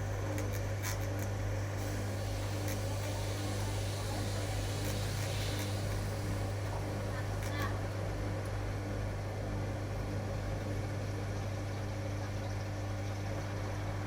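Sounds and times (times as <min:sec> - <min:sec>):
washing machine hum: 0:00.0 - 0:14.0.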